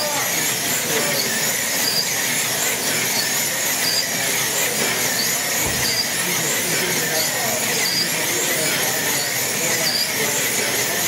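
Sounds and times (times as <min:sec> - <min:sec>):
slot car motors whining: 0:00.0 - 0:11.0.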